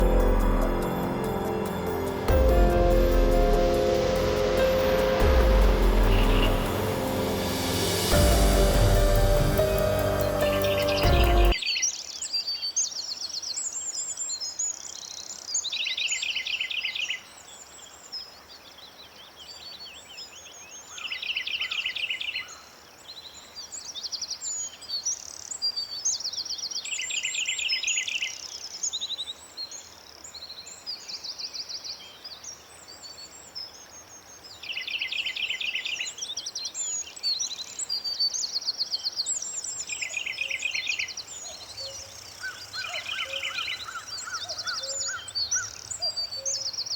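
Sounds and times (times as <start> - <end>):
birds chirping and twittering: 0.0 - 46.9.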